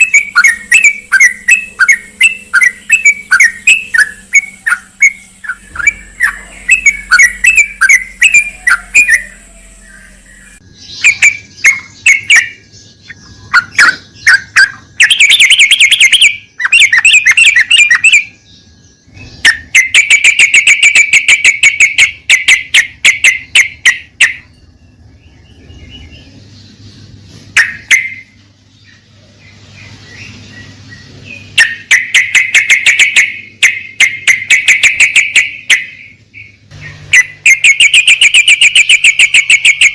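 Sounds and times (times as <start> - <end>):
bird chattering calls: 0.0 - 18.4, 19.0 - 39.9.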